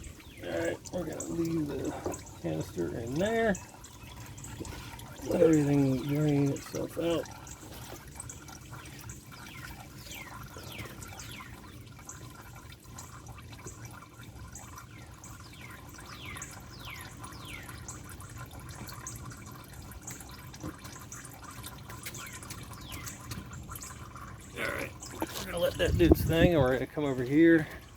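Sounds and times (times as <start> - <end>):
oil trickling into drain pan: 0.0 - 27.9.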